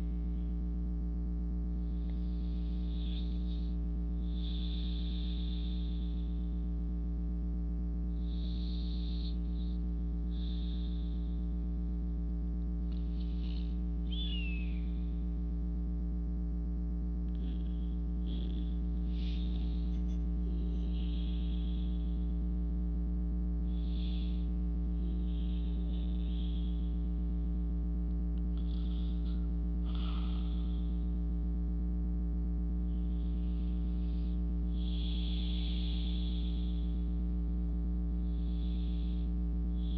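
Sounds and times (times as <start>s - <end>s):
soft breathing: 0.0s - 39.9s
steady low hum: 0.0s - 39.9s.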